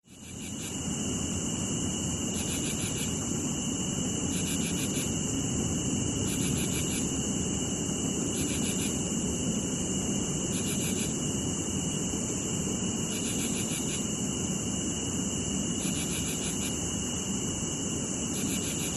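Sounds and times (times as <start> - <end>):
cicadas buzzing: 0.1 - 18.9.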